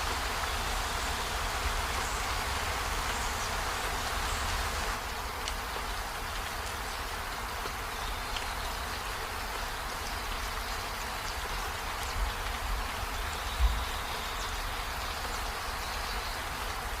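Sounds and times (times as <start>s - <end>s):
rain on trees and window: 0.0s - 17.0s.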